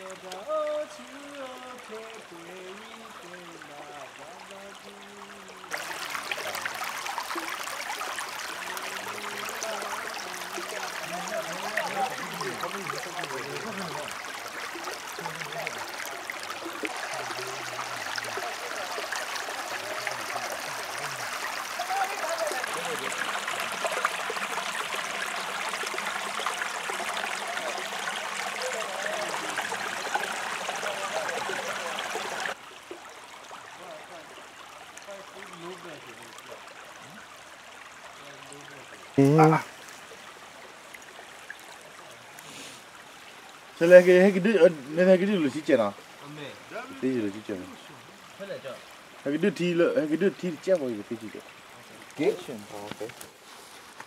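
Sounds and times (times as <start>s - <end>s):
creek water babbling: 0.0s - 54.0s.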